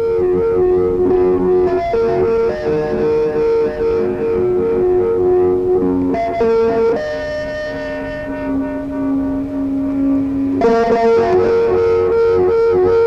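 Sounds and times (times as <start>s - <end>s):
ringing guitar notes: 0.0s - 13.0s.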